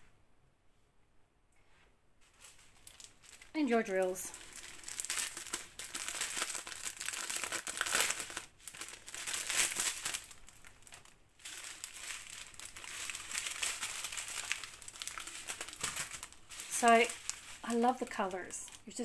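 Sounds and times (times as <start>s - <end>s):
plastic bag crinkling: 2.2s - 19.0s.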